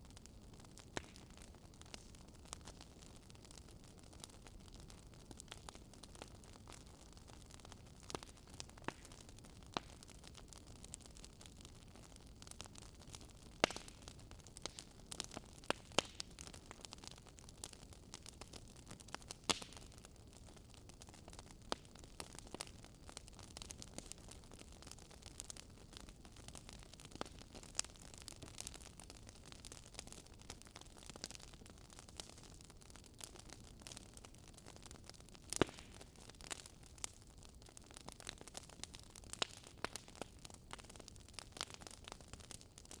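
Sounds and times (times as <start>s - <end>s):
firewood crackling: 0.1s - 43.0s.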